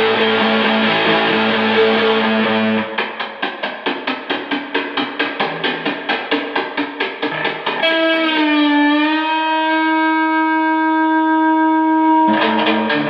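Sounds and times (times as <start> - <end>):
electric guitar picking: 0.0 - 13.0.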